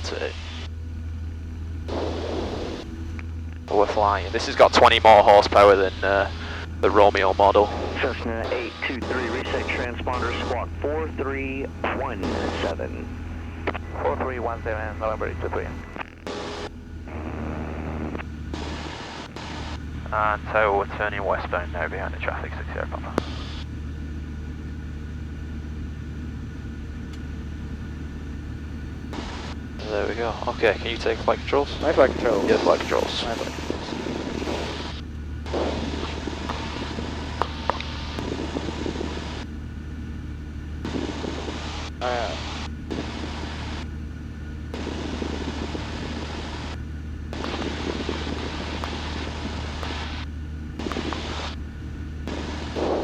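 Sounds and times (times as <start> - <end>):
plane engine and propeller drone: 0.0 - 53.0.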